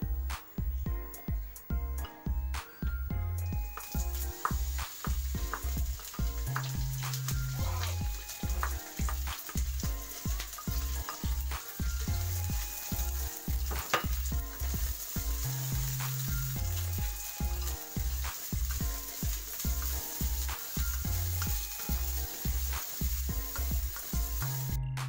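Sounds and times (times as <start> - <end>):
background music bass line: 0.0 - 25.0
oil sizzling in wok: 1.6 - 24.8
spatula scraping and knocking pan: 3.8 - 24.4.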